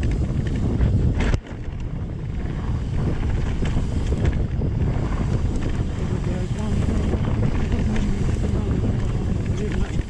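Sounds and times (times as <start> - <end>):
bike tyres rumbling on boardwalk: 0.0 - 10.0
wind buffeting microphone: 0.0 - 10.0.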